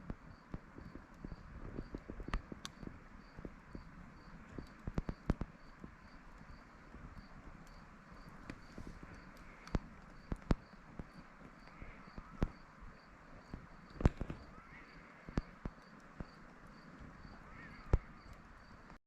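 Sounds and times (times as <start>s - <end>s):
cricket chirping: 0.3s - 18.9s.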